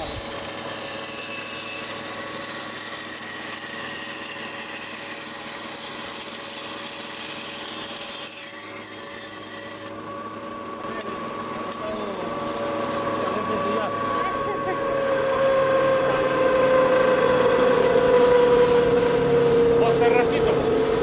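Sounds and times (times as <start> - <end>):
band saw cutting timber: 0.0 - 21.0.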